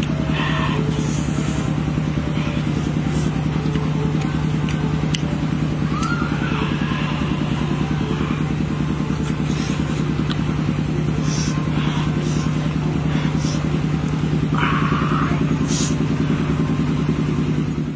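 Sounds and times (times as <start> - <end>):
engine pulsing hum: 0.0 - 17.9.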